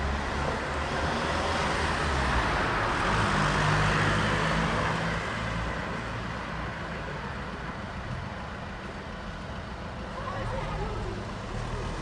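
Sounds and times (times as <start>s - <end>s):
steady traffic hum: 0.0s - 12.0s.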